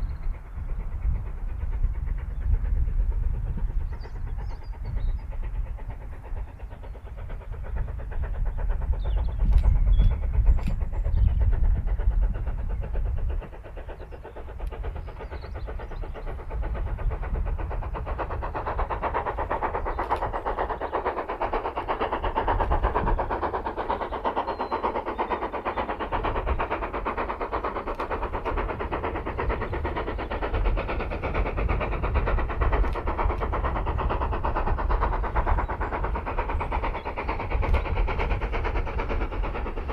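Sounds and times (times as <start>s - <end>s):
train running past: 0.0s - 39.9s.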